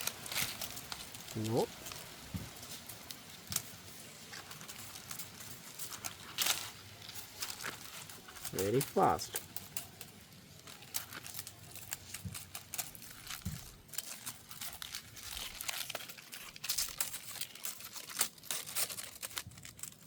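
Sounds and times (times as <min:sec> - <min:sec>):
dry leaves rustling and crackling: 0:00.0 - 0:20.0.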